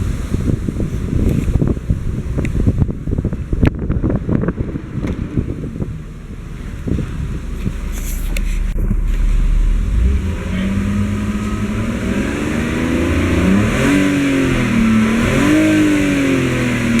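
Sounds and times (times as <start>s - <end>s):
car engine revving: 2.1s - 17.0s.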